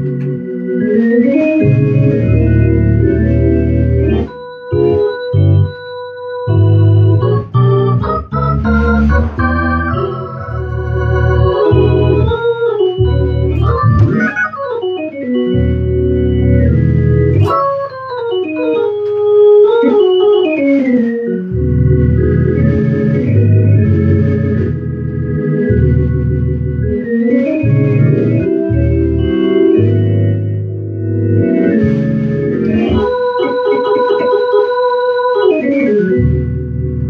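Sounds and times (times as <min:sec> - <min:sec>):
gospel organ playing: 0:00.0 - 0:37.0.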